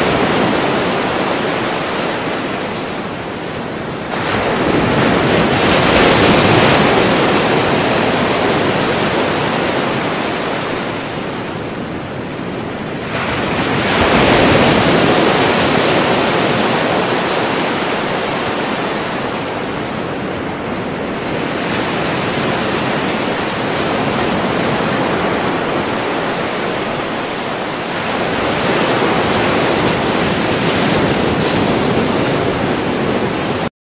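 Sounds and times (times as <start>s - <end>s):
ocean waves crashing on shore: 0.0s - 33.7s.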